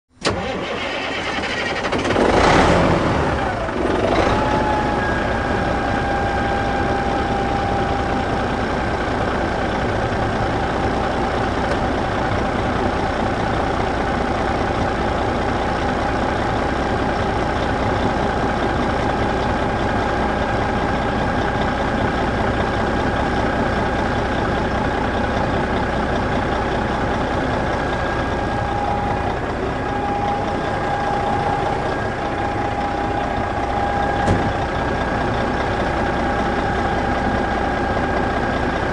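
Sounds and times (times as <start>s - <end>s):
tractor engine idling: 0.1s - 38.9s.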